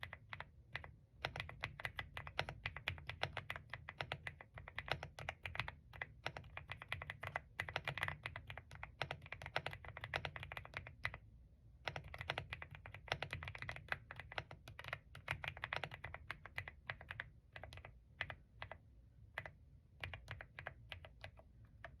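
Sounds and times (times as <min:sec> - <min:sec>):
mechanical keyboard typing: 0:00.0 - 0:11.2, 0:11.8 - 0:22.0.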